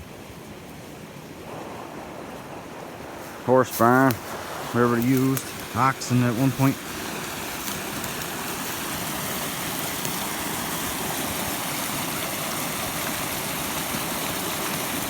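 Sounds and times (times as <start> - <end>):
brook water rushing: 0.0 - 15.0.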